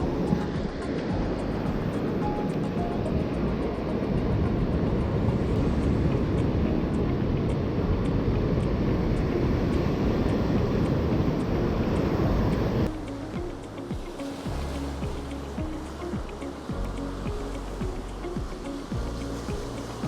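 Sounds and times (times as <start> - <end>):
surf breaking on beach: 0.0 - 20.0
wind: 0.0 - 20.0.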